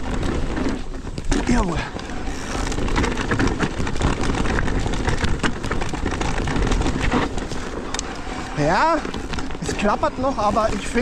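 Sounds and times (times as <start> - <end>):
bike rattling: 0.0 - 11.0
bike tyres rolling over trail: 0.0 - 11.0.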